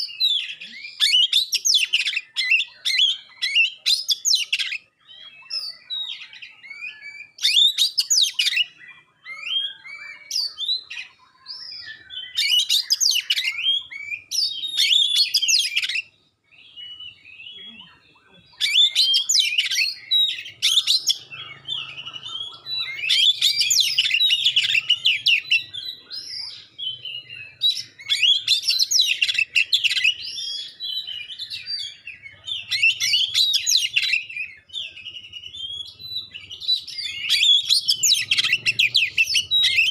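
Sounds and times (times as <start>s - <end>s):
magpie-robin singing sharp notes: 0.0s - 17.7s, 18.5s - 39.9s.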